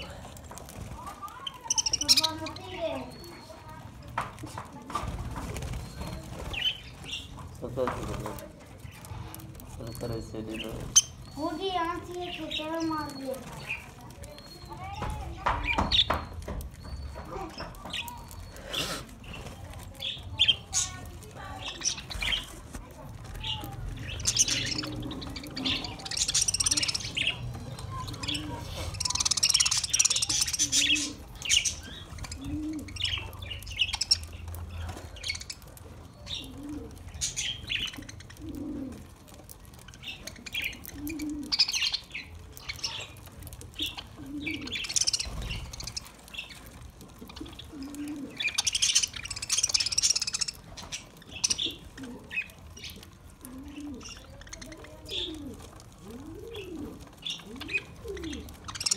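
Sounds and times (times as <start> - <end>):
budgerigars chattering and chirping: 1.3 - 3.6, 5.5 - 19.4, 20.0 - 22.6, 23.4 - 38.8, 39.4 - 58.9.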